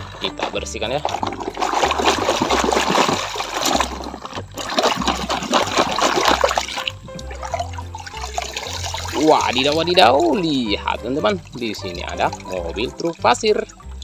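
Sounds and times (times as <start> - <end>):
muddy water splashing: 0.0 - 14.0
music with repeating bass line: 0.0 - 14.0.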